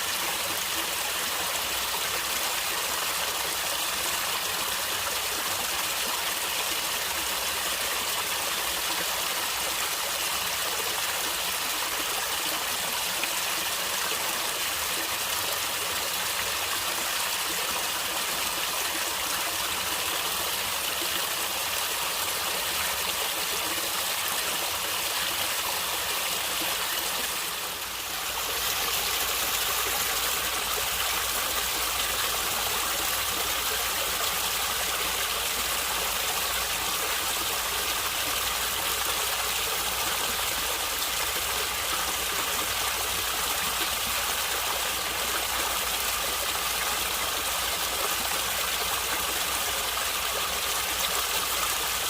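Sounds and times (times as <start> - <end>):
stream water gurgling: 0.0 - 52.0.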